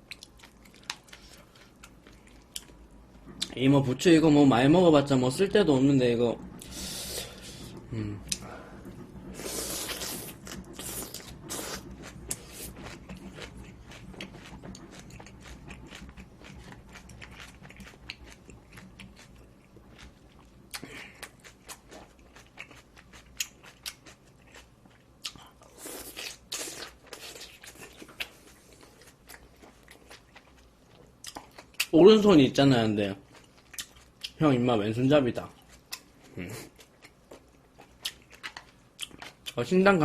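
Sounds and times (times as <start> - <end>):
person chewing food: 0.0 - 3.6, 6.4 - 31.9, 33.2 - 34.4, 35.4 - 39.6.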